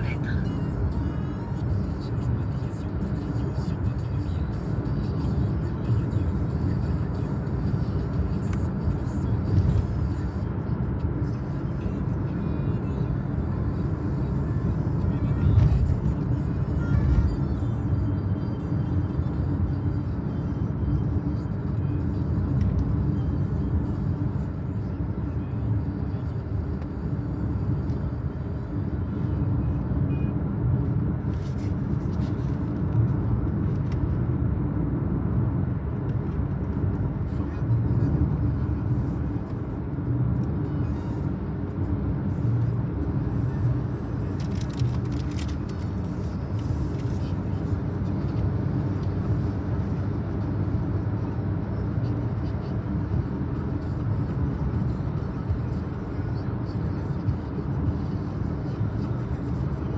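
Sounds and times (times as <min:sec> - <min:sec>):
car road noise from inside: 0:00.0 - 0:59.9.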